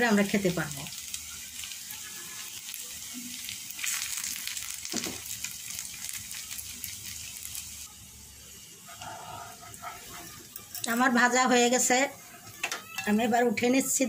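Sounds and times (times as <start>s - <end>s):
vegetable slices sizzling in oil: 0.0s - 14.0s.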